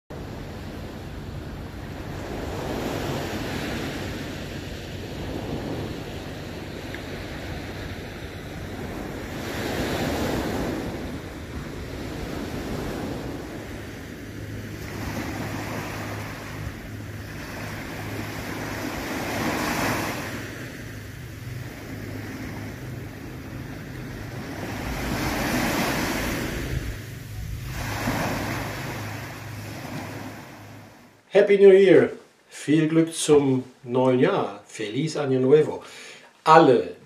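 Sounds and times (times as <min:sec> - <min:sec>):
waves breaking on shore: 0:00.1 - 0:32.4
wind buffeting microphone: 0:00.2 - 0:31.0.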